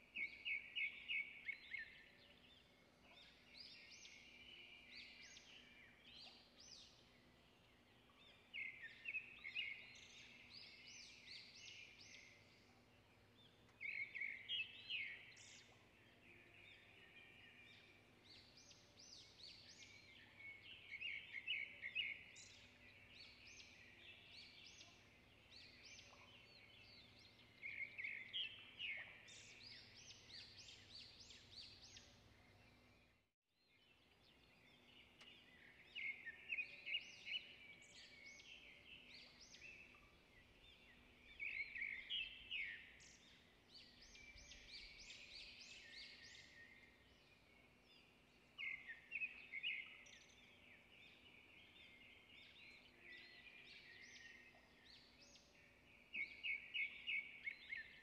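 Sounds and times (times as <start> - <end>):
faint bird chirping: 0.0 - 58.0.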